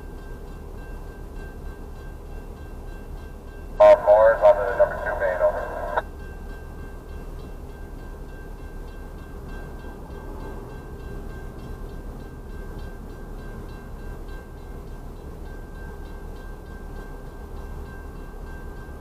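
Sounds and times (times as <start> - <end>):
crossing bell ringing faintly: 0.0 - 19.0
freight train rumble: 0.1 - 19.0.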